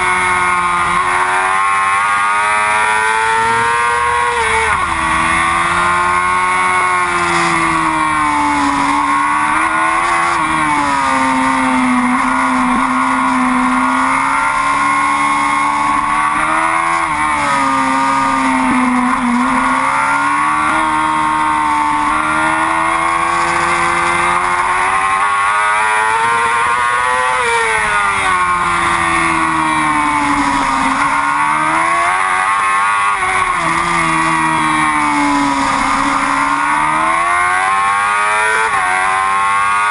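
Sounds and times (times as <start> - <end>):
motorcycle engine at high revs: 0.0 - 39.9
wind and road noise: 0.0 - 39.9.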